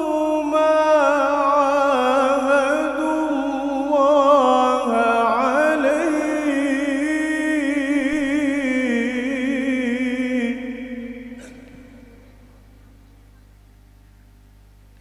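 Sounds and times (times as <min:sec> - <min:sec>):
man reciting melodically: 0:00.0 - 0:12.2
faint steady hum: 0:00.0 - 0:15.0.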